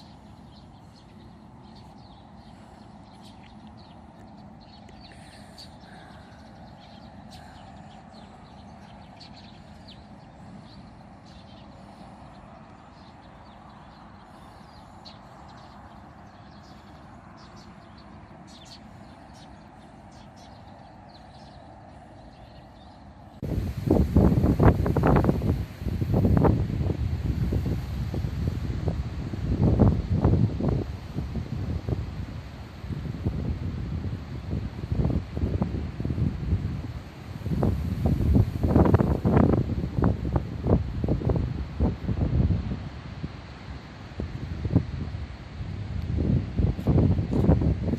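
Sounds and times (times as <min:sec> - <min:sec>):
small birds chirping: 0:00.0 - 0:42.1
steady background noise: 0:00.0 - 0:47.9.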